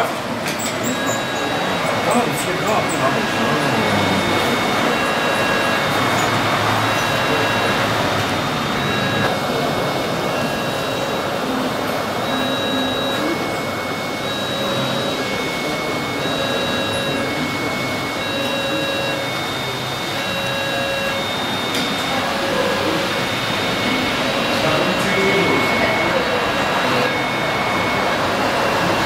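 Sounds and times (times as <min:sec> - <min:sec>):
faint high whine: 0:00.6 - 0:29.0.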